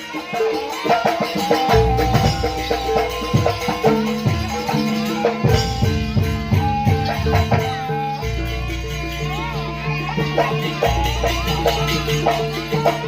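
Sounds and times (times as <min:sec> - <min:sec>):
held melodic tones: 0:00.0 - 0:13.0
rapid drum strikes: 0:00.0 - 0:13.0.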